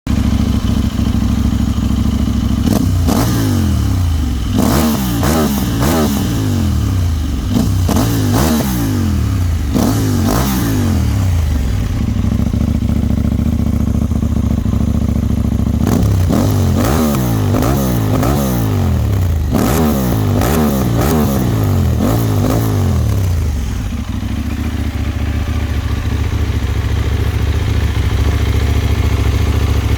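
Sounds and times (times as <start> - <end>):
motorcycle engine idling and revving: 0.0 - 29.9.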